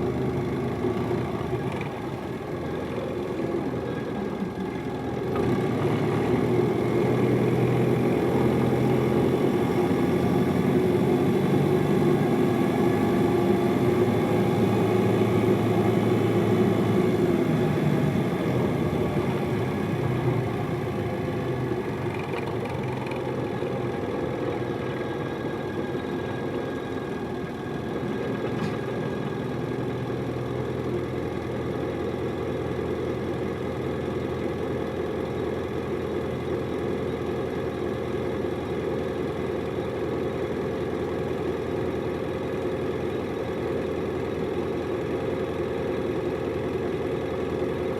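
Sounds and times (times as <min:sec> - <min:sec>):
bus diesel engine running: 0:00.0 - 0:47.9.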